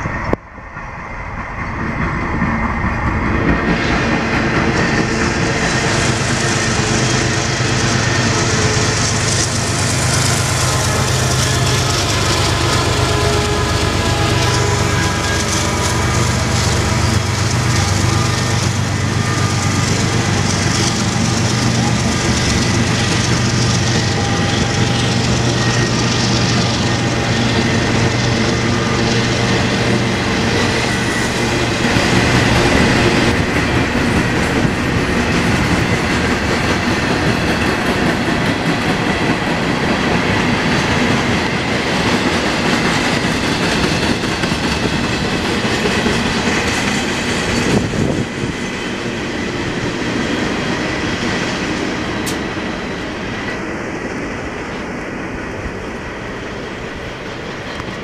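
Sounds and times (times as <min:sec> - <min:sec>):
diesel locomotive engine hum: 0:00.0 - 0:58.0
freight train wheels rolling: 0:00.0 - 0:58.0.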